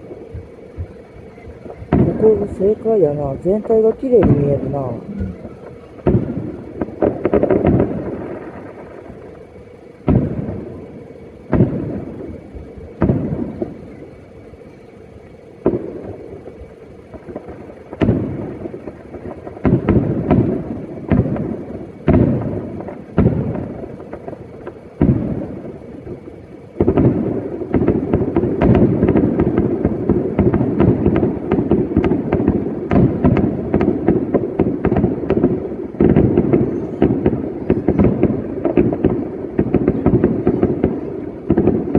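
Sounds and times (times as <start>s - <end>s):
fireworks bursting with loud bangs: 0.0s - 41.9s.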